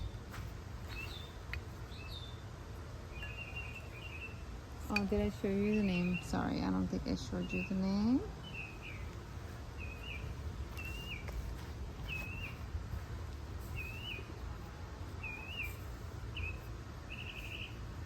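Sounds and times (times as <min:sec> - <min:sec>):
low background rumble: 0:00.0 - 0:18.0
bird chirping: 0:00.9 - 0:02.5, 0:03.1 - 0:13.0, 0:13.6 - 0:18.0.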